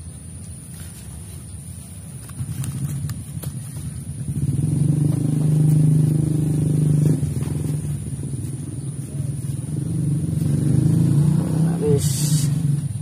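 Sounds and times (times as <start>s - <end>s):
small engine revving: 2.4s - 13.0s.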